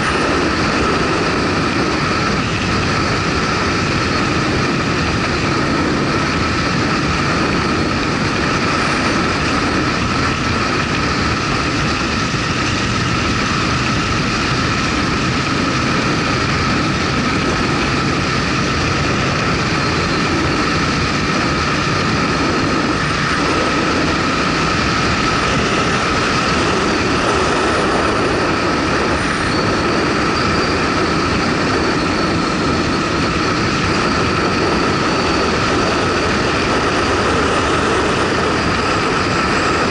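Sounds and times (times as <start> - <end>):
motorcycle engine and wind rush: 0.0 - 39.9.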